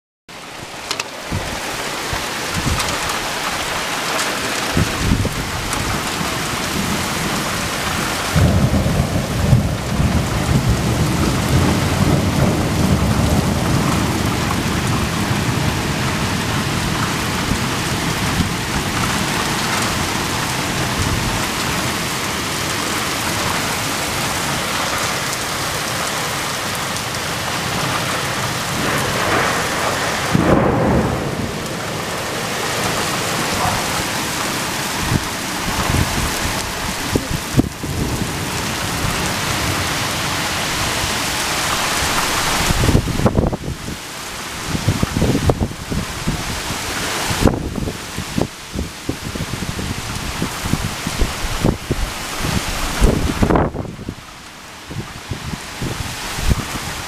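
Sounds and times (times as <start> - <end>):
heavy rain pouring: 0.3 - 57.0
thunder rumbling: 0.4 - 57.0.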